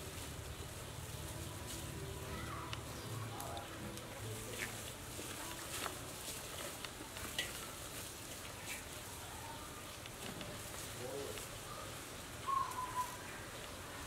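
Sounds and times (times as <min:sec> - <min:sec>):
wet crackles of kimchi: 0:00.0 - 0:14.0.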